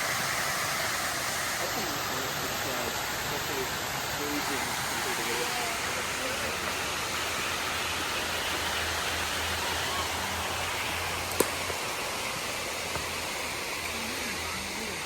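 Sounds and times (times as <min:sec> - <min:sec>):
water rushing in creek and waterfall: 0:00.0 - 0:15.0.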